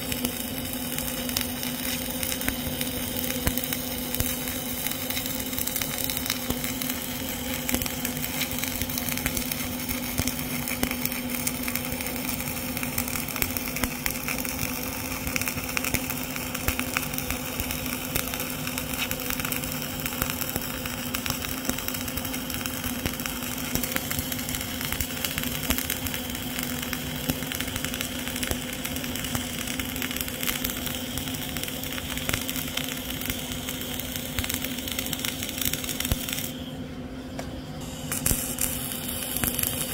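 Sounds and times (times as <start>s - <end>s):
welding arc crackling: 0.0s - 36.7s, 37.8s - 39.9s
welder hum: 0.0s - 39.9s.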